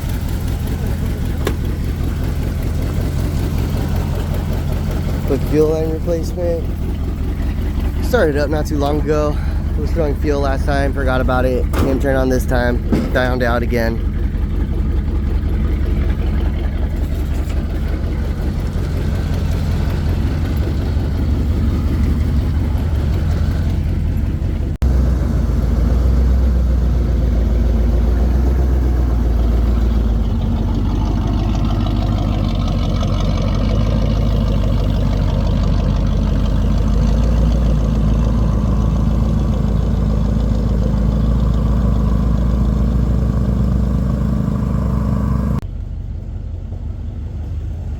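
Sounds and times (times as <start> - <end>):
truck engine rumbling: 0.0 - 47.9.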